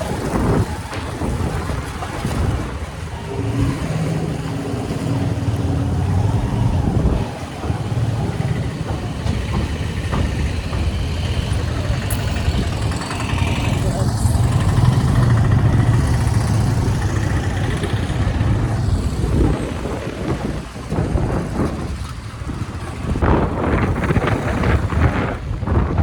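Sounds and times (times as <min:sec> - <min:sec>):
road and traffic noise: 0:00.0 - 0:26.0
vehicle engine hum: 0:00.0 - 0:26.0.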